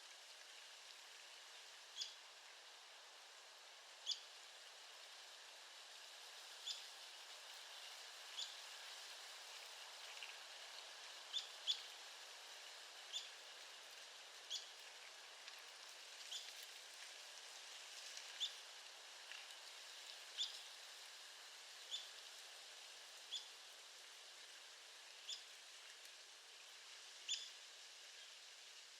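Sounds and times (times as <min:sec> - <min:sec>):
faint steady hiss: 0:00.0 - 0:28.9.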